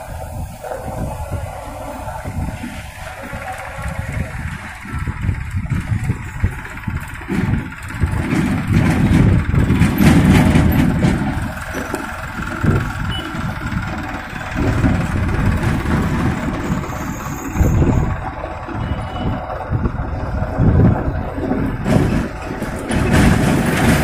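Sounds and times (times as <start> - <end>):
road traffic rumble: 0.0 - 24.0
tractor diesel engine: 0.0 - 24.0.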